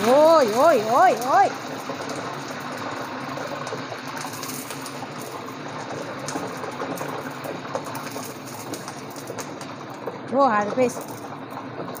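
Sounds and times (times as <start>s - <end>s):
frying in hot oil: 0.0s - 12.0s
gas range hum: 0.0s - 12.0s.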